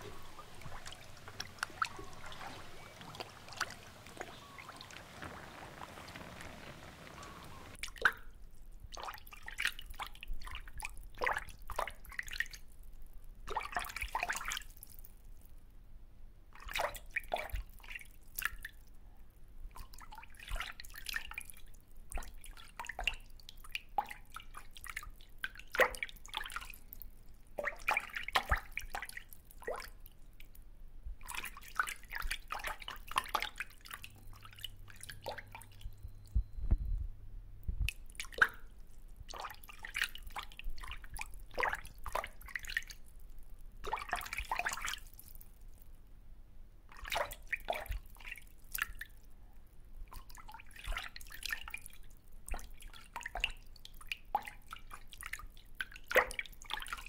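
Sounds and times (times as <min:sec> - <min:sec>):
water splashes and drips: 0:00.0 - 0:15.6, 0:16.5 - 0:19.0, 0:19.7 - 0:36.4, 0:37.8 - 0:45.9, 0:46.9 - 0:49.3, 0:50.0 - 0:57.0.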